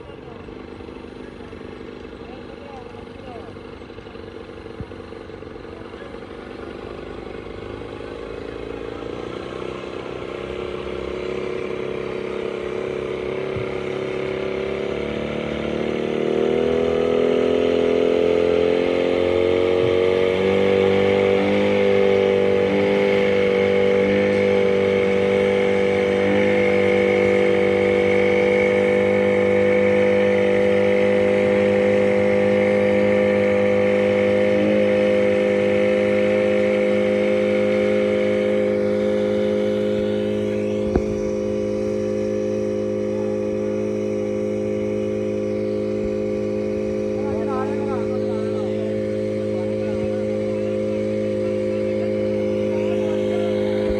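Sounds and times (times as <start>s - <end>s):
engine speeding up: 0.0s - 53.9s.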